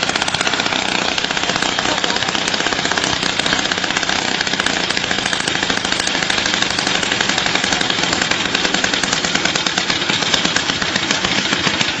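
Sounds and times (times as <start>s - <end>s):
petrol rock drill hammering: 0.0s - 12.0s.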